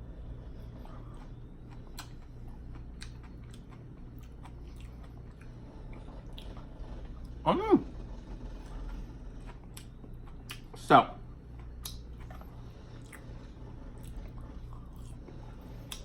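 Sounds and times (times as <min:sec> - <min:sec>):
person chewing food: 0:00.5 - 0:07.4, 0:08.7 - 0:16.0.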